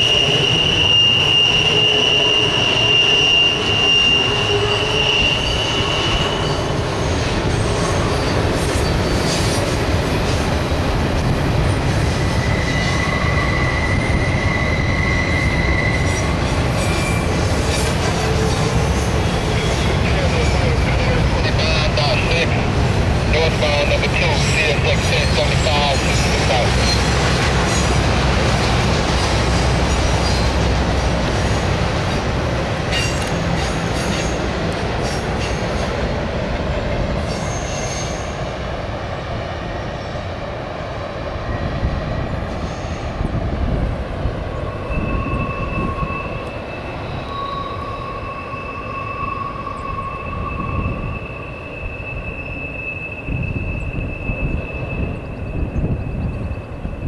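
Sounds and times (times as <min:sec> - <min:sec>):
train wheels squealing: 0:00.0 - 0:10.7, 0:11.5 - 0:22.5, 0:23.4 - 0:28.5, 0:29.2 - 0:32.2, 0:32.9 - 0:36.2, 0:36.8 - 0:38.7, 0:41.2 - 0:57.0.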